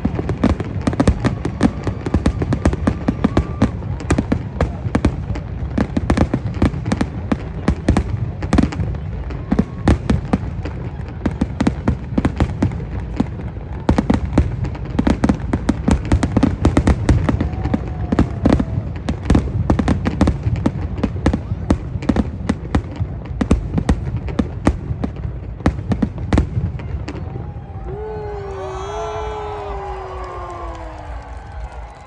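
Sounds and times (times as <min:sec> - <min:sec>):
fireworks cracks and pops: 0:00.0 - 0:27.8, 0:29.2 - 0:32.0.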